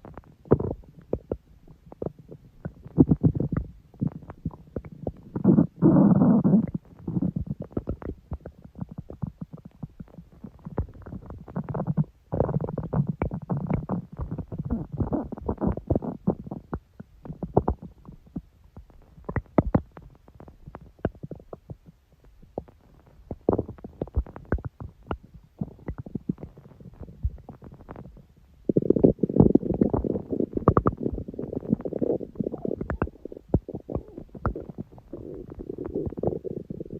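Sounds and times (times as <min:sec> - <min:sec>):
small pops and bubbling: 0:00.0 - 0:36.9
stomach growling and gurgling: 0:00.0 - 0:36.9.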